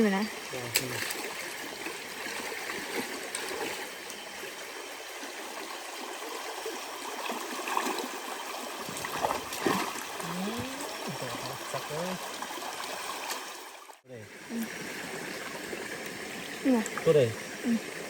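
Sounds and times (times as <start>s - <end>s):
creek trickling over stones: 0.0s - 18.0s.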